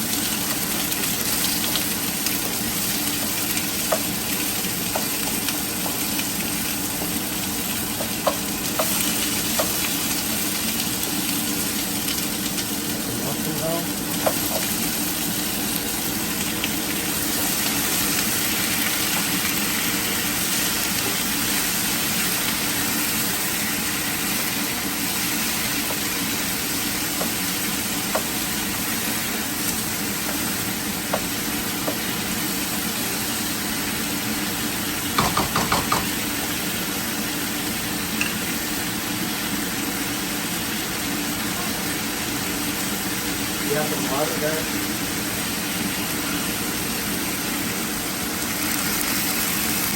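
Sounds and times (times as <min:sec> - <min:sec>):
food sizzling in a pan: 0:00.0 - 0:49.9.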